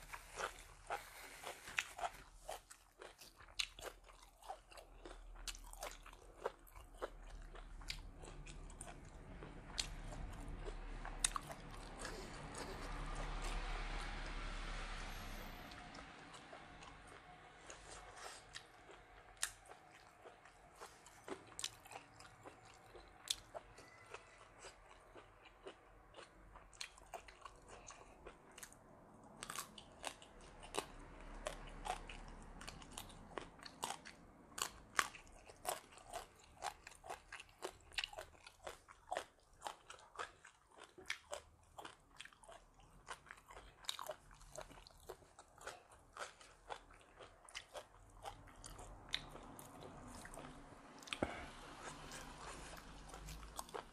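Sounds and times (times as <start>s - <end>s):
person crunching raw vegetables: 0.0s - 53.9s.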